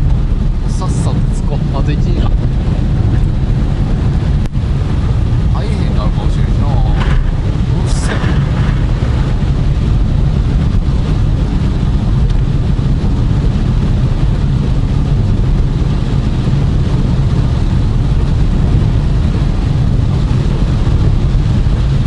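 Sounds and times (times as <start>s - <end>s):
hiss of water under tyres: 0.0s - 22.0s
tyre and engine rumble: 0.0s - 22.0s.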